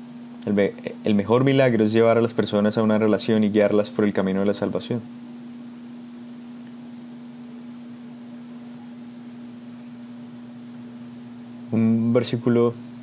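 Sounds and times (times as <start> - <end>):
faint room hiss: 0.0 - 13.0
steady hum: 0.0 - 13.0.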